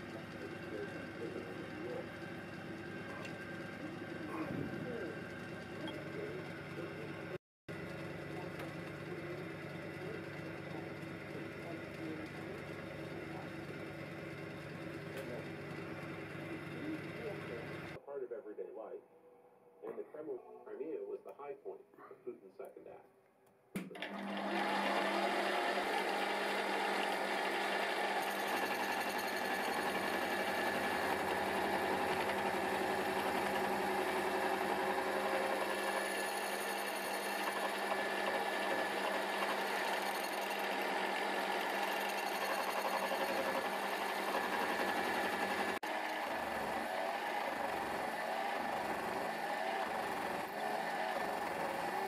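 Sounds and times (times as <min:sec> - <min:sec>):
milling machine sawing aluminium: 0:00.0 - 0:18.0, 0:24.0 - 0:52.0.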